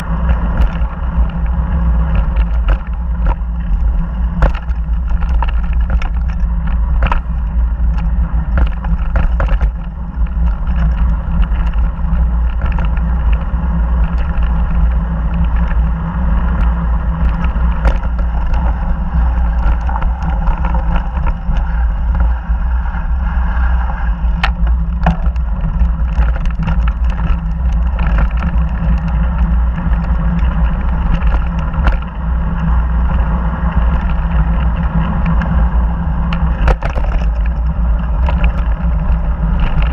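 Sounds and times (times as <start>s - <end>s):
bike clicking and rattling: 0.0s - 39.9s
bike tyre noise on dirt: 0.0s - 39.9s
wind rumble on microphone: 0.0s - 39.9s.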